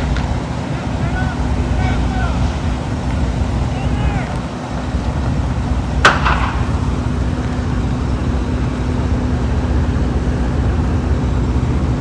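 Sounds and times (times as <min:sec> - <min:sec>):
constant low hum: 0:00.0 - 0:12.0
vehicle engine rumbling: 0:00.0 - 0:12.0.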